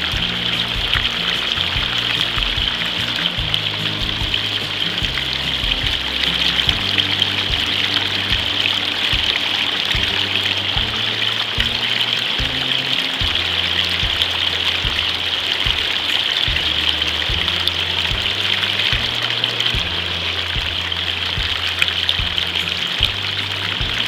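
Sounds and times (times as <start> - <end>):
background music with beat: 0.0 - 24.0
water trickling over trays: 0.0 - 24.0.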